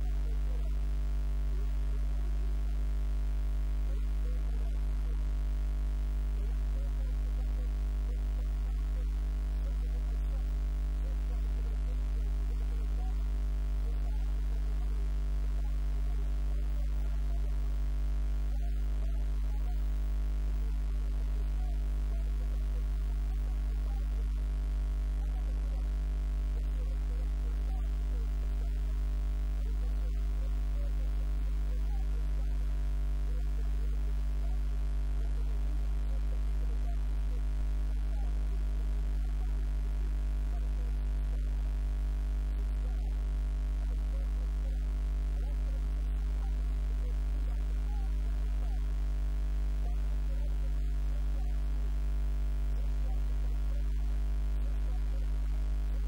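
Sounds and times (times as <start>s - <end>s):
electrical mains hum: 0.0s - 56.0s.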